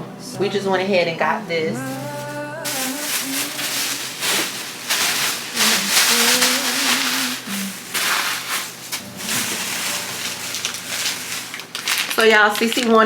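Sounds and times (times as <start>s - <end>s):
plastic bags rustling and crinkling: 1.7s - 13.0s.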